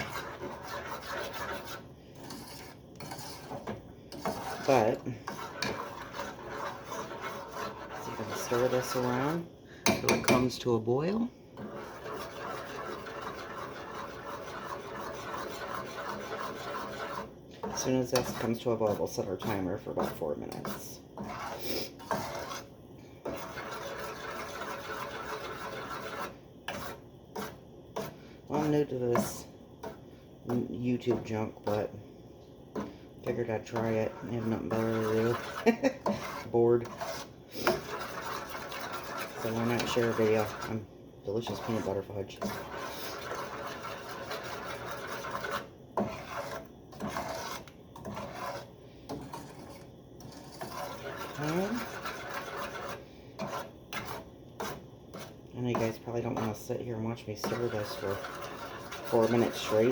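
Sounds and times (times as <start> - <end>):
spoon scraping saucepan: 0.0 - 32.1, 32.7 - 59.9.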